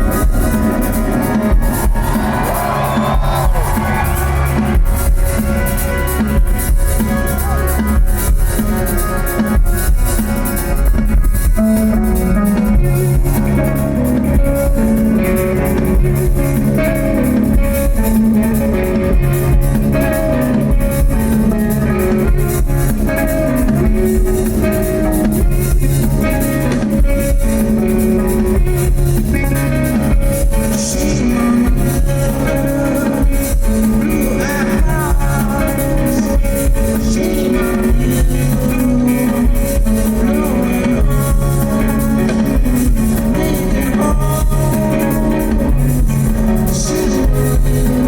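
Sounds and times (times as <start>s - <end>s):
bass guitar: 0.0s - 48.0s
drum kit: 0.0s - 48.0s
guitar riffing: 0.0s - 48.0s.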